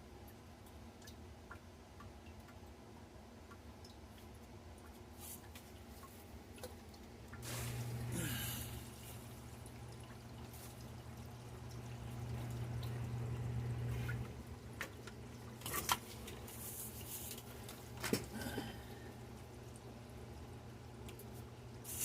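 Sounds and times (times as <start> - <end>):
low steady hum: 0.0 - 22.0
water pouring and dripping: 3.4 - 8.1, 8.8 - 22.0.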